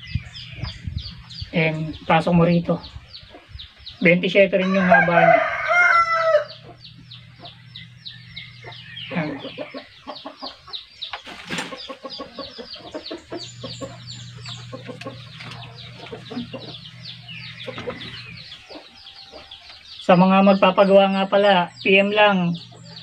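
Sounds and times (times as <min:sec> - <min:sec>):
chickens clucking: 0:00.0 - 0:23.0
chicks peeping: 0:00.0 - 0:23.0.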